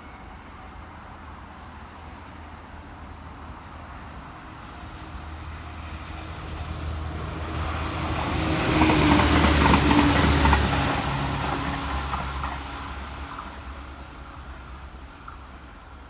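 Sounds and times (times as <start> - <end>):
railcar humming: 0.0 - 16.0.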